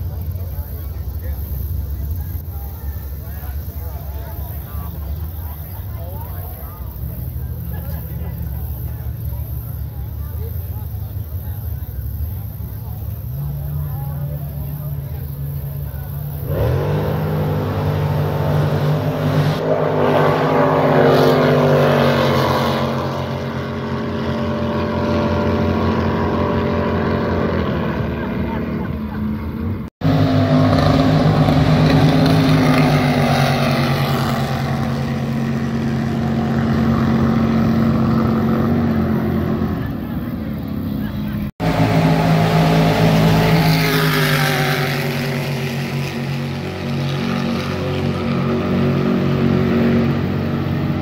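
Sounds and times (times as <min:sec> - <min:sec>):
jet boat engine drone: 0:00.0 - 0:51.0.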